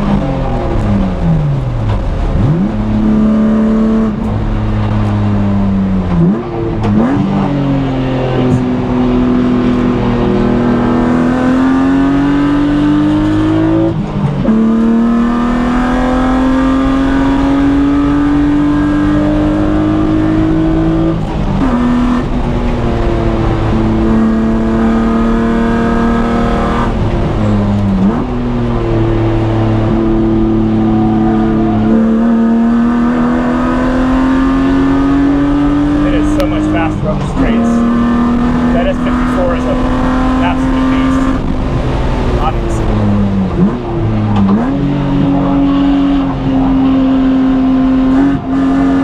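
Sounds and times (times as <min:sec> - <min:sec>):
car engine accelerating through gears: 0:00.0 - 0:49.0.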